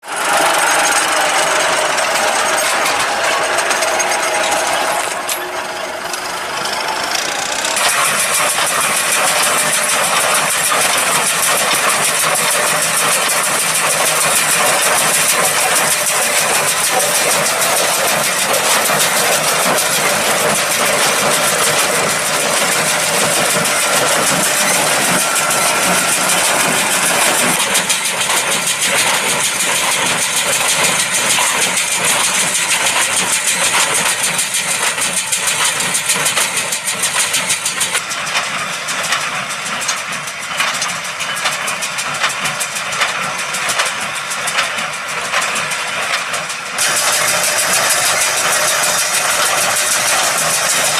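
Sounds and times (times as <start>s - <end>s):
baler machinery running: 0.0s - 50.9s
tractor diesel engine under load: 0.0s - 50.9s.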